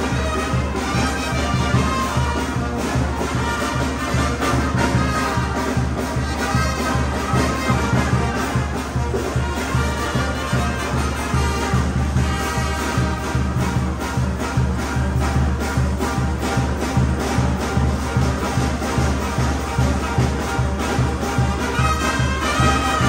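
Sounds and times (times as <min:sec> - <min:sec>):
brass band music: 0:00.0 - 0:23.0.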